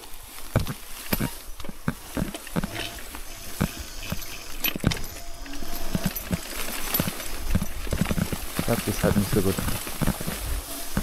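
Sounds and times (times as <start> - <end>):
bike rattling over rough ground: 0.0 - 11.0
tall grass brushing: 0.0 - 11.0.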